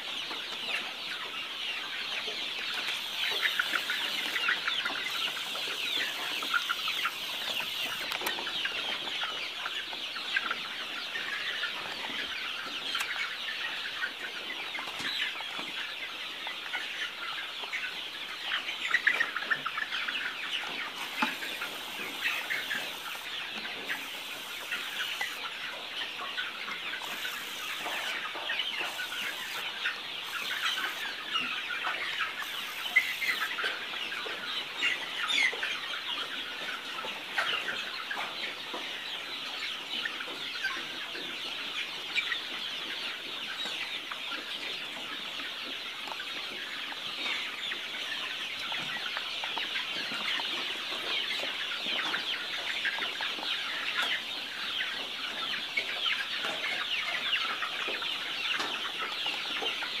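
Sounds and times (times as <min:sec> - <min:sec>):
chickens clucking: 0:00.0 - 1:00.0.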